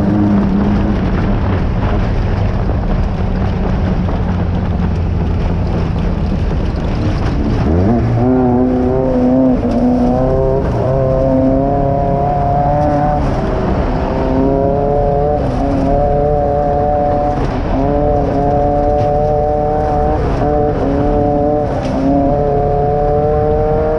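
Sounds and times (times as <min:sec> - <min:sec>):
race car engine revving: 0:00.0 - 0:23.9
rough rumble and rattle: 0:00.0 - 0:23.9.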